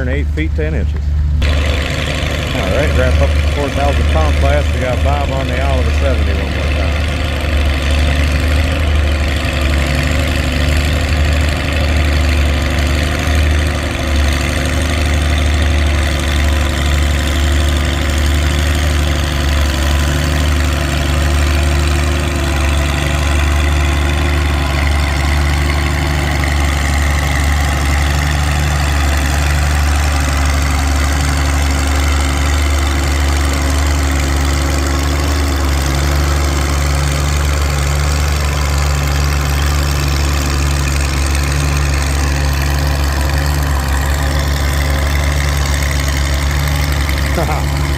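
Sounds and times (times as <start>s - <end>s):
tractor engine running steadily: 0.0s - 47.9s.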